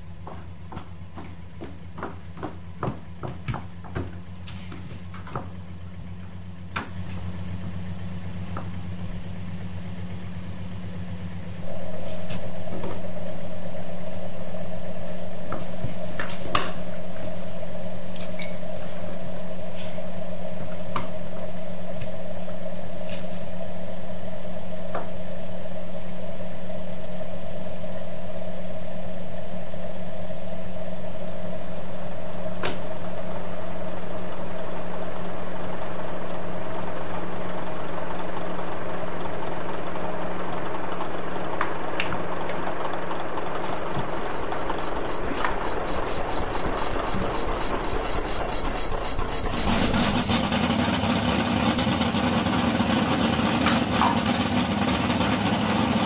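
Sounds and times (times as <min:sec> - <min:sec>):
higher drone: 0:00.0 - 0:56.0
low engine drone: 0:00.0 - 0:56.0.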